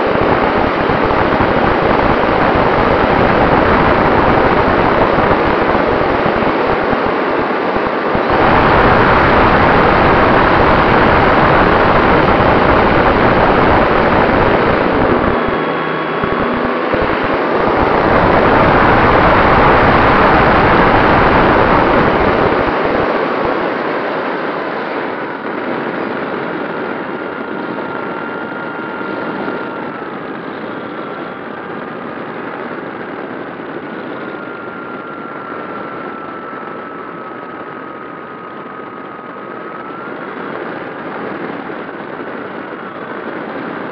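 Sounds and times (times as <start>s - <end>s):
airflow rushing over microphone: 0.0s - 43.9s
electric motor and propeller whine: 0.0s - 43.9s.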